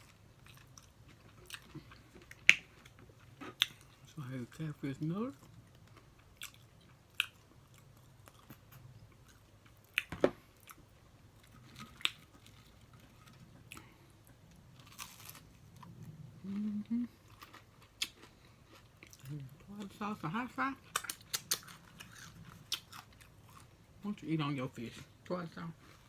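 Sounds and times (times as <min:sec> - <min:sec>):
person chewing crunchy food: 0:00.0 - 0:04.0, 0:05.3 - 0:20.0, 0:20.8 - 0:23.8.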